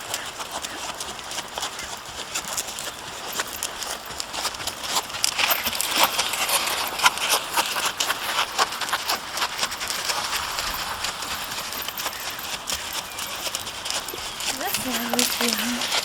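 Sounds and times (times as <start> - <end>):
horse hoofbeats: 0.0 - 16.0.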